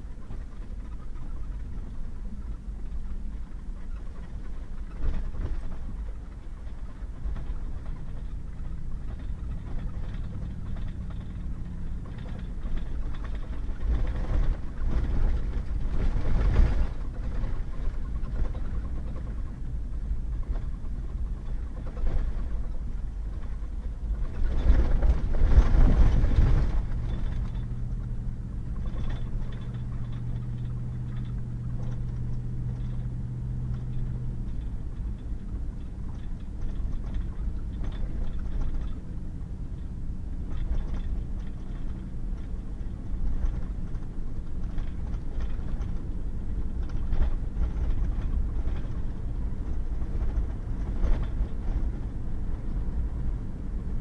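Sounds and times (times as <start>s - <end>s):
truck engine drone: 0.0s - 54.0s.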